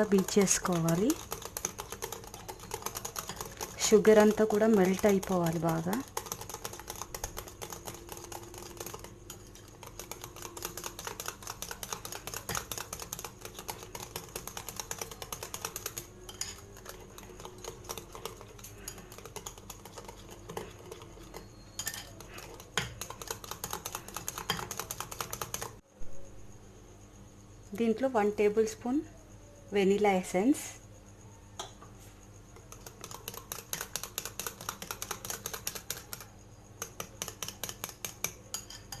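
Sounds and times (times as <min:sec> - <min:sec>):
utensil beating batter in bowl: 0:00.0 - 0:25.8, 0:32.5 - 0:39.0.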